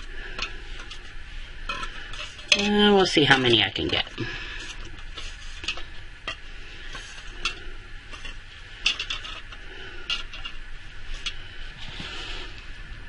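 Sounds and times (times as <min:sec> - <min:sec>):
spatula scraping a bowl: 0:00.0 - 0:11.4.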